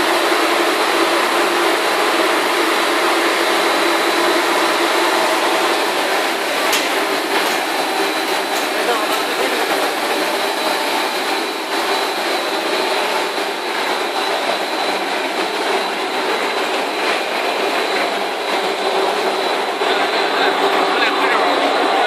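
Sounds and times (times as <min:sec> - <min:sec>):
extrusion machinery running: 0:00.0 - 0:22.0.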